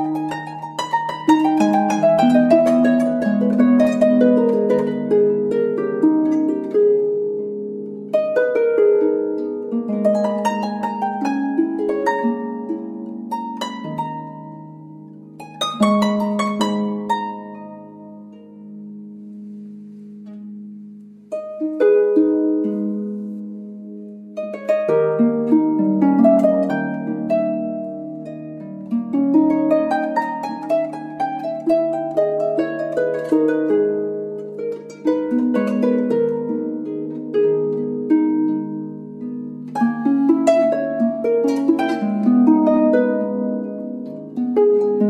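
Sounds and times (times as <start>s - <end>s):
plucked string music: 0.0s - 45.0s.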